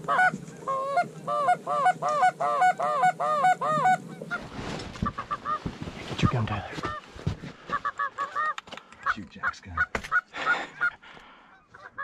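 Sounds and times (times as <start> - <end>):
geese honking: 0.0 - 7.1, 7.7 - 12.0.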